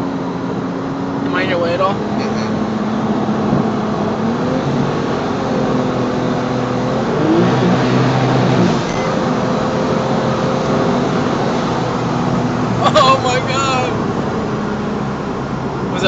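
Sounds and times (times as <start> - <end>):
car engine pulling hard: 0.0 - 16.0
road and wind noise: 0.0 - 16.0.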